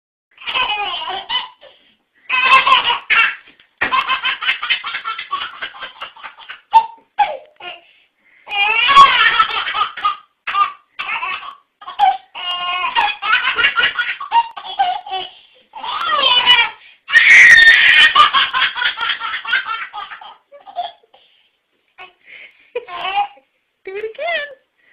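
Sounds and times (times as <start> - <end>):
baby laughing: 0.4 - 7.8, 8.5 - 21.2, 22.8 - 23.4.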